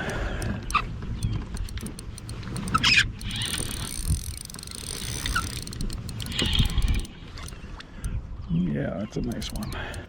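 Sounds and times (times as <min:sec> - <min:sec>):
scattered clicks: 0:00.0 - 0:08.2, 0:09.2 - 0:10.0.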